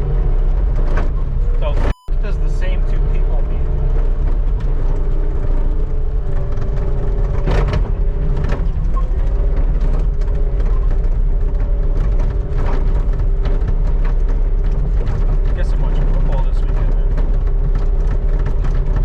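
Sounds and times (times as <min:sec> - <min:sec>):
skid steer engine with whine: 0:00.0 - 0:19.0.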